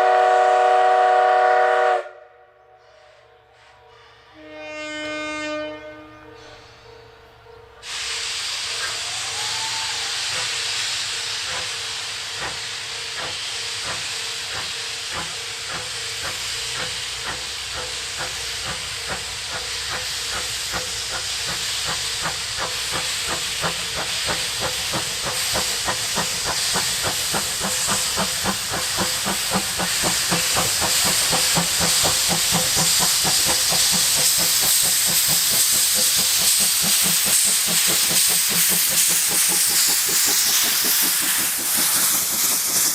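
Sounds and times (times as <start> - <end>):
steam locomotive exhaust chuffs: 0.0 - 2.2, 7.8 - 42.9
hiss of venting steam: 7.8 - 42.9.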